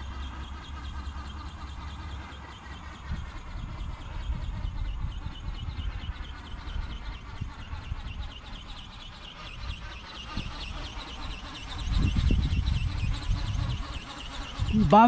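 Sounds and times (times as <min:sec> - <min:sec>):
model motor whine: 0:00.0 - 0:15.0
wind buffeting microphone: 0:02.8 - 0:15.0.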